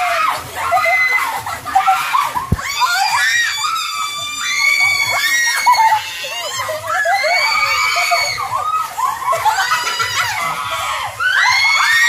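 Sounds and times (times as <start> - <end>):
people screaming and shrieking: 0.0 - 12.0.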